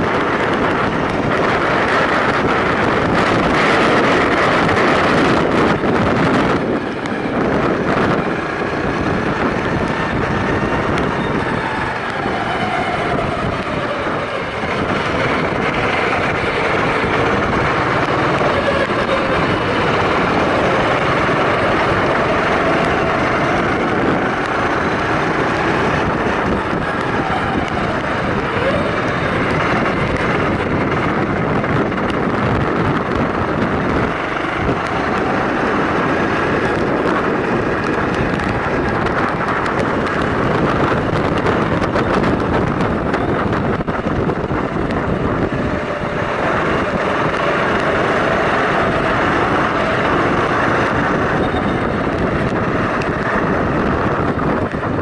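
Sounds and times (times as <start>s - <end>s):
kart engine revving: 0.0s - 55.0s
wind noise on microphone: 0.0s - 55.0s.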